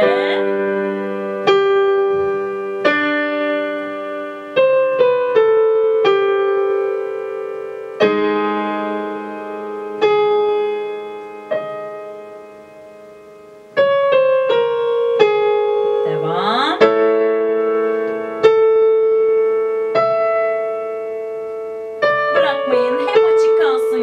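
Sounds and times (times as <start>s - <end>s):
digital piano chords: 0.0s - 24.0s.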